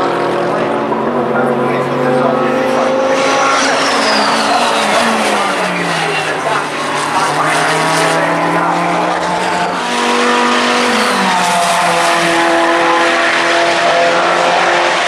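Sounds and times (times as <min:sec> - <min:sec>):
race car engines running: 0:00.0 - 0:15.0.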